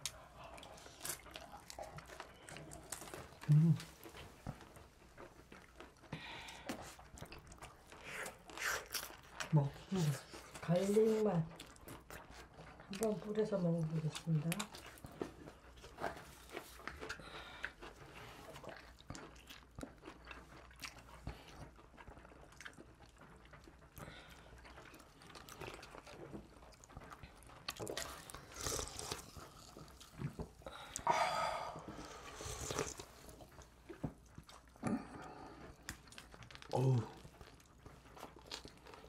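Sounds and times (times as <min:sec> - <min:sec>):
people chewing crisp pizza: 0:00.0 - 0:39.0.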